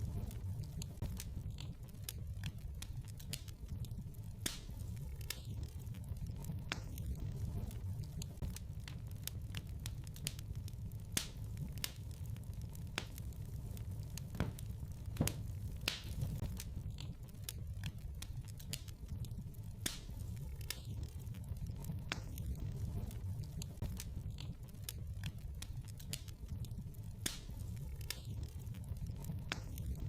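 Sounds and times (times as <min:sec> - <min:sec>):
fireplace fire crackling: 0:00.0 - 0:30.0
low steady rumble: 0:00.0 - 0:30.0.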